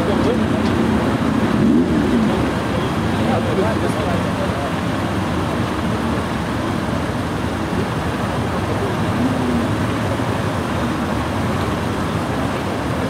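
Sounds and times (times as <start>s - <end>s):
vehicles running on road: 0.0s - 13.0s.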